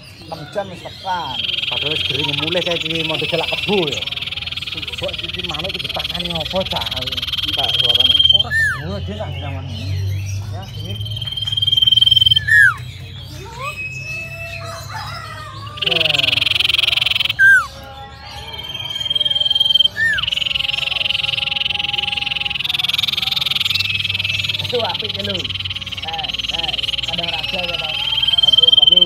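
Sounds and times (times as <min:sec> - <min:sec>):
bird singing whistles and trills: 0:00.0 - 0:29.0.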